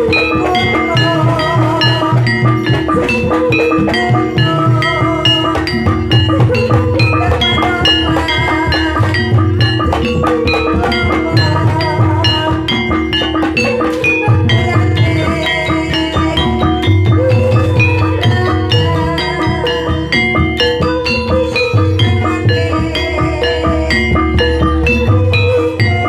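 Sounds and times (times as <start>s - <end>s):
gamelan music: 0.0s - 26.0s
hand drum: 0.0s - 26.0s
ringing tuned percussion melody: 0.0s - 26.0s.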